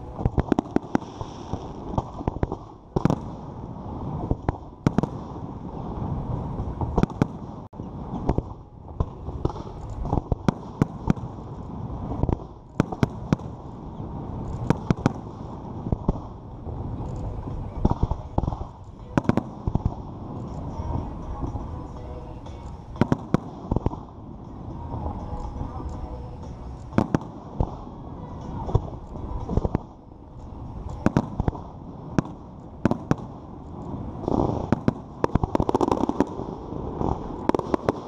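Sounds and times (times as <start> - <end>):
fireworks bangs: 0.0 - 25.9, 26.8 - 29.9, 30.7 - 38.0
steady low rumble: 0.0 - 38.0.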